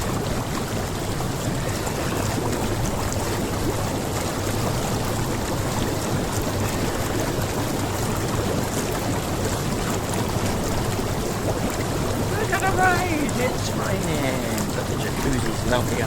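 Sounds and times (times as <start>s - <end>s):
jacuzzi air jets bubbling: 0.0s - 16.0s.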